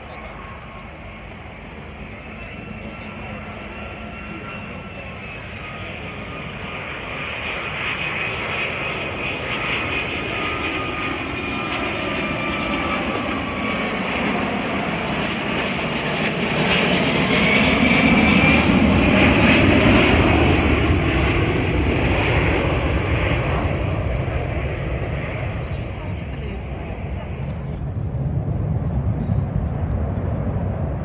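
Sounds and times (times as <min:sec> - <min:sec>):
jet aircraft flying past: 0:00.0 - 0:31.0.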